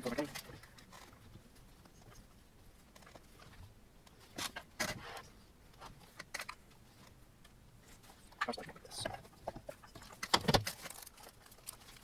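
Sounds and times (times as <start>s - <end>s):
clicks and scrapes of parts handled: 0.0s - 12.0s.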